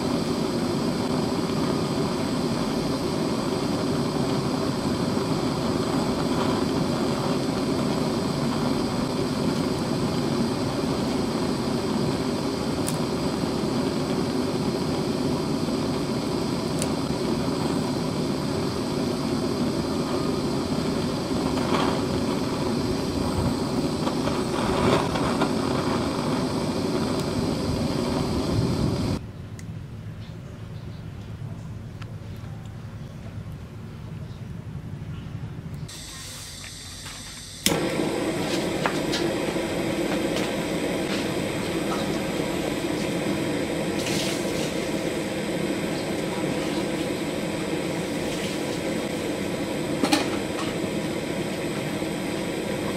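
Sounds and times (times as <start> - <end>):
burning matches crackling: 0.0 - 29.2, 35.9 - 52.9
gas torch flame rushing: 0.0 - 29.2, 35.9 - 52.9.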